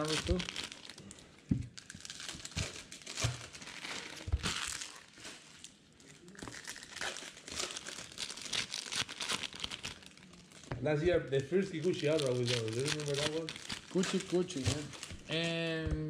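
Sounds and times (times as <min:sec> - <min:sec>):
card pack wrappers crinkling and tearing: 0:00.0 - 0:15.8.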